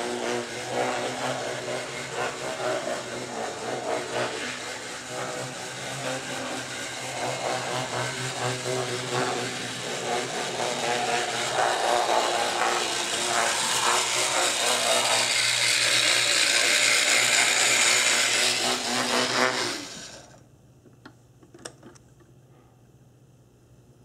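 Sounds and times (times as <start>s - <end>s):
model train motor whirring: 0.0s - 20.4s.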